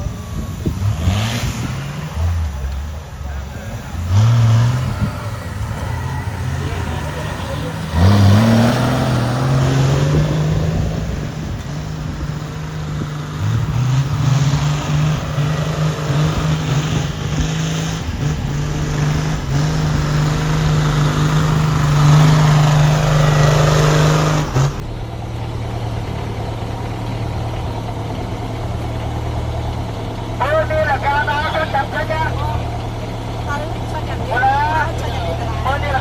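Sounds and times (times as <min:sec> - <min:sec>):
off-road vehicle engine revving: 0:00.0 - 0:36.0
steady engine hum: 0:00.0 - 0:36.0.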